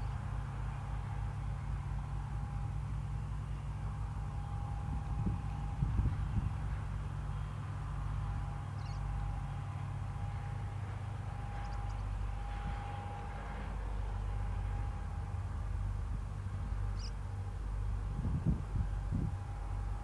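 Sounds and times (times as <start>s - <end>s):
distant jet airliner rumble: 0.0s - 20.0s.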